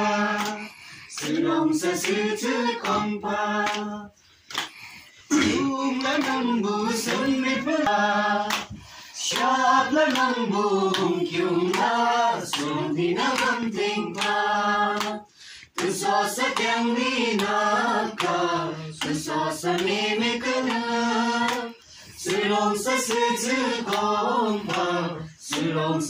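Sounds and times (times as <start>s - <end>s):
group of voices singing: 0.0s - 26.0s
handclaps: 0.0s - 26.0s.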